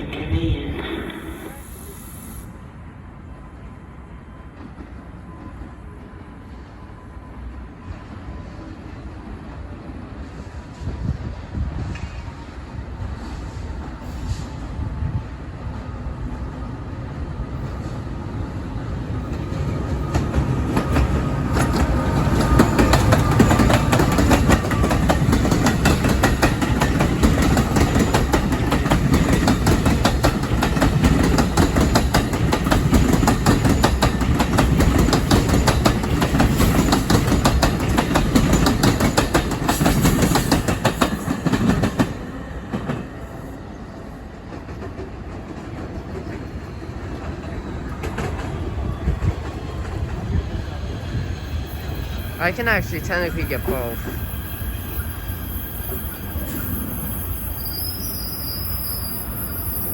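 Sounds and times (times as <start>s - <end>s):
passenger train passing: 0.0s - 59.9s.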